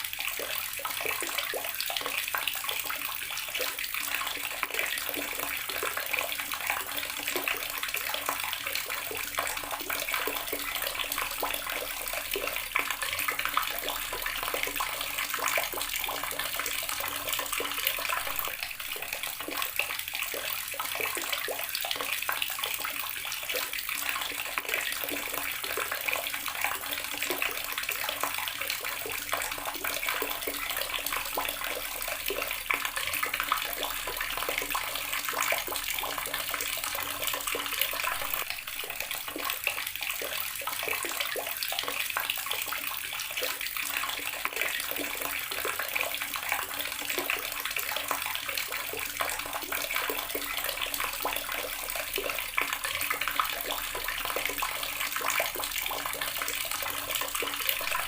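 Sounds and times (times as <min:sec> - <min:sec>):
water tap running and splashing: 0:00.0 - 0:58.0.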